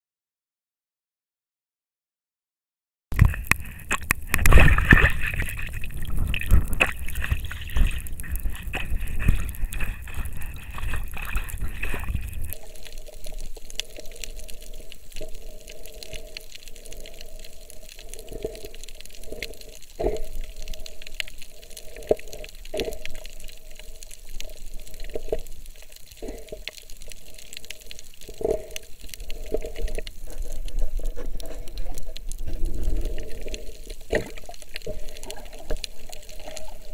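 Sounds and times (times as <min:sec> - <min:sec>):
underwater water wash: 0:03.1 - 0:36.9.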